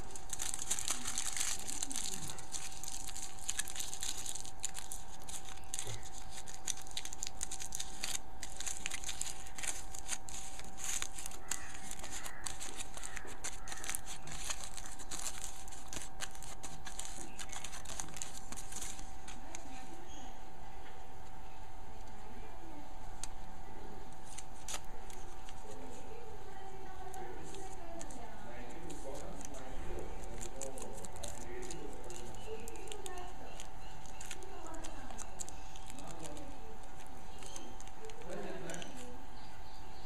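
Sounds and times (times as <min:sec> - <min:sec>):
aluminium foil crinkling: 0:00.0 - 0:19.9, 0:24.2 - 0:39.5.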